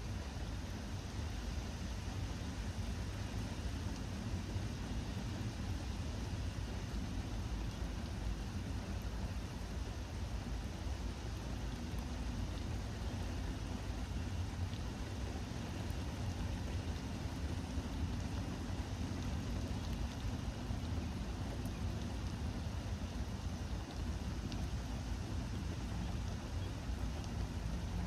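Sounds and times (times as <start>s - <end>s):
rain hiss: 0.0s - 28.0s.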